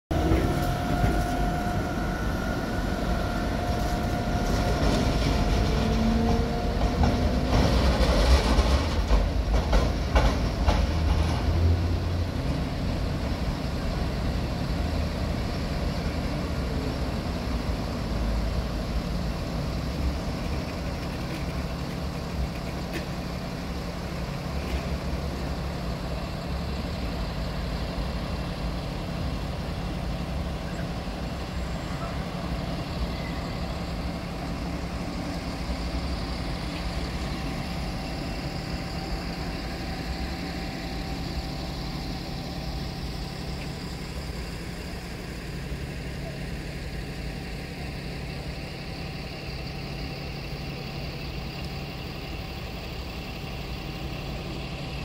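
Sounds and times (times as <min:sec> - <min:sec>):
bus passing: 0:00.1 - 0:55.0
street traffic rumble: 0:00.1 - 0:55.0
tram wheels clattering over rail joints: 0:00.1 - 0:55.0
tram whining: 0:00.1 - 0:55.0.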